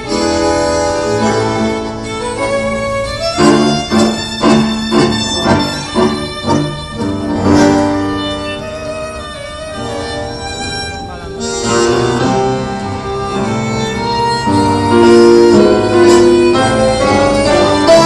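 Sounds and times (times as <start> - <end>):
tango ensemble playing: 0.0 - 18.0.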